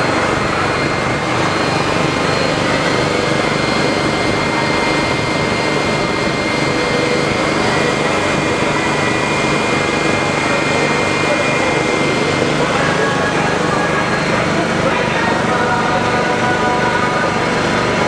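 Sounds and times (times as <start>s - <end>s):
thin steady whine: 0.0s - 18.0s.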